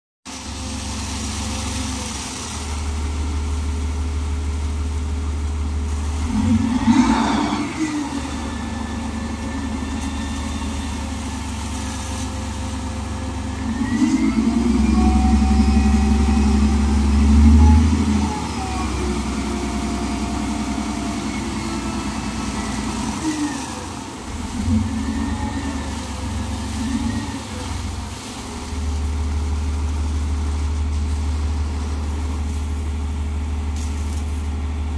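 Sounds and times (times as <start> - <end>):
diesel engine running and revving: 0.3 - 34.9.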